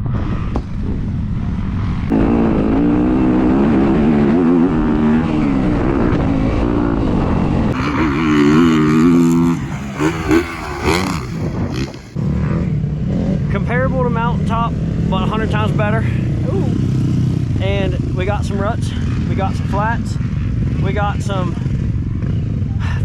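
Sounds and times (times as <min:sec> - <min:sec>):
dirt bike engine revving: 0:00.0 - 0:22.7
low rumble: 0:00.0 - 0:22.7.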